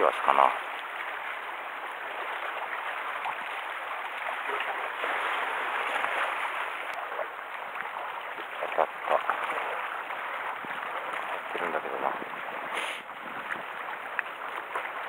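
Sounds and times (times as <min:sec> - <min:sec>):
sea water washing against rocks: 0:00.0 - 0:15.0.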